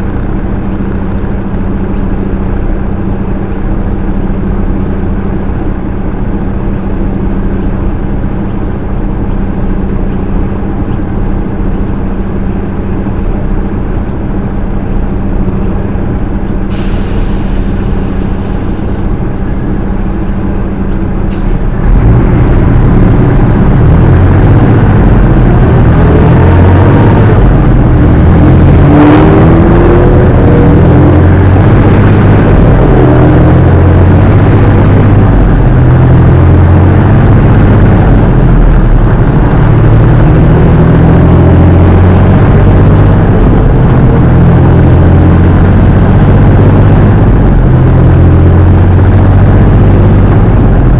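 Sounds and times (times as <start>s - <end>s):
truck diesel engine: 0.0s - 50.9s.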